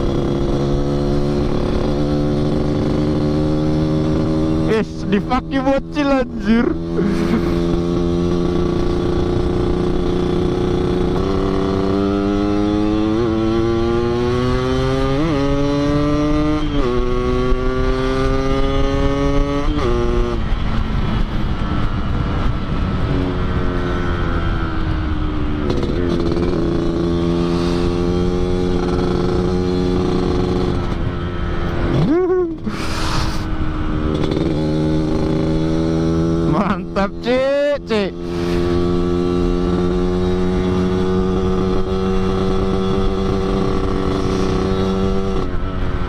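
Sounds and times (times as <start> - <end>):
motorcycle engine revving through gears: 0.0 - 46.0.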